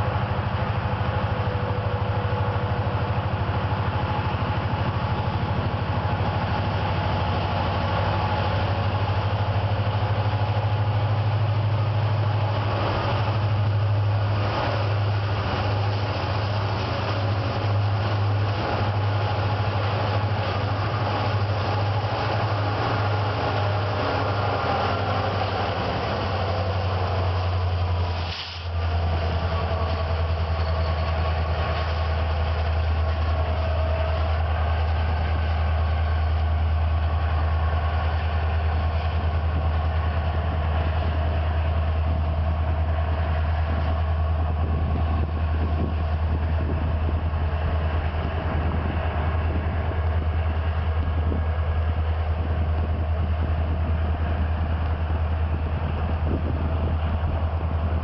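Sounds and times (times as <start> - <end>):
diesel locomotive drone: 0.0 - 58.0
train rumbling on rails: 0.0 - 58.0.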